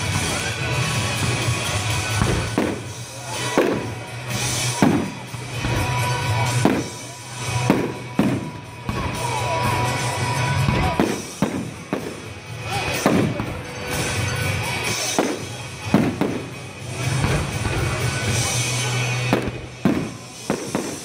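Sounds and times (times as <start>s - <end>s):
firework shells bursting: 0.0s - 9.2s, 9.9s - 21.0s
music playing: 0.0s - 21.0s.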